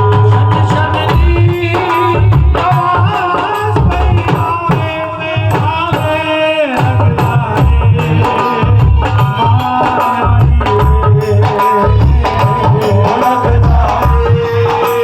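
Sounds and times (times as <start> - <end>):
devotional song melody: 0.0 - 15.0
hand drum rhythm: 0.0 - 15.0.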